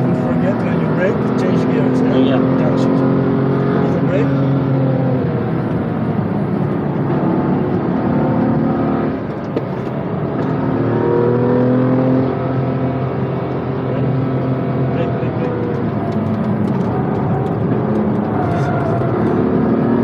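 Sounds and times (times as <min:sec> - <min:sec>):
car engine running hard: 0:00.0 - 0:20.0
road noise inside car: 0:00.0 - 0:20.0.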